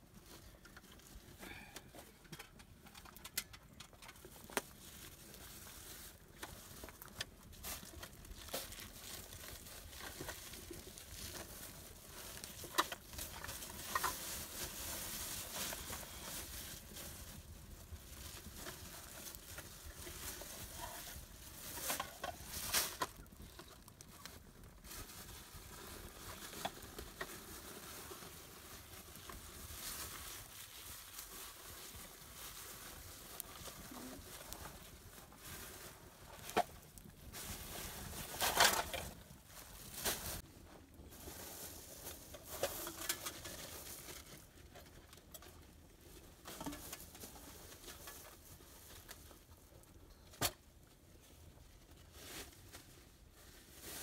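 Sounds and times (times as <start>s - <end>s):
plastic bag crinkling: 2.5s - 50.0s.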